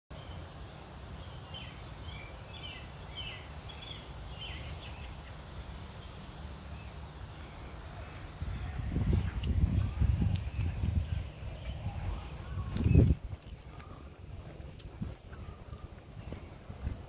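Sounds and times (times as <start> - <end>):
songbirds chirping: 0.1 - 17.0
steady low outdoor rumble: 0.2 - 17.0.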